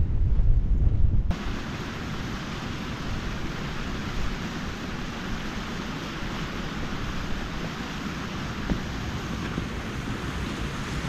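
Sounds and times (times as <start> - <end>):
stream rushing over rocks: 1.3 - 11.0.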